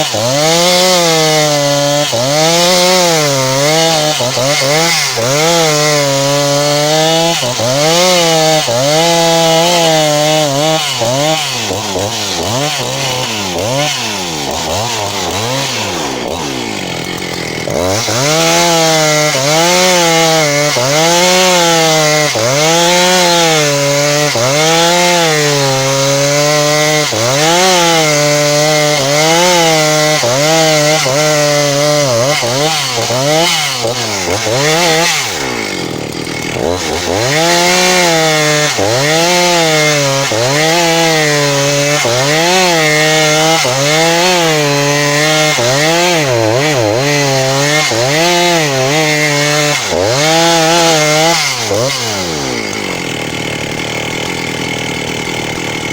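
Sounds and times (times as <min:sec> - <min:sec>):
chainsaw cutting through log: 0:00.0 - 0:55.9.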